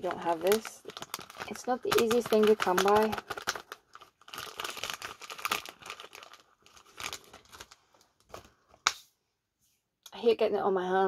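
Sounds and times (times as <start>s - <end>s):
packet crinkling: 0.0s - 9.0s.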